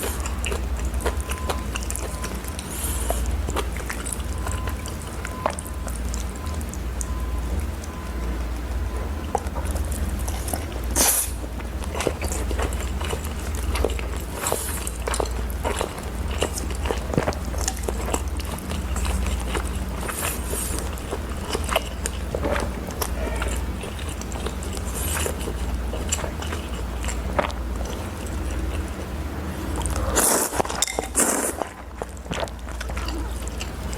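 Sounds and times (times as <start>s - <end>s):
person chewing: 0.0s - 33.9s.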